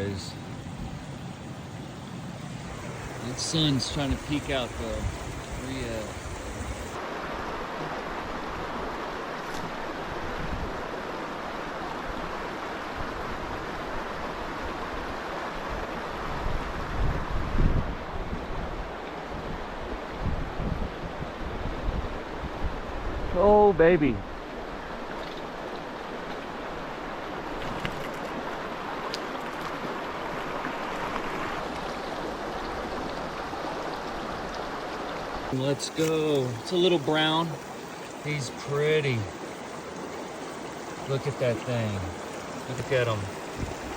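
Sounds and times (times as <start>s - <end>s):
river water rushing over riffle: 0.0s - 17.0s, 24.3s - 43.9s.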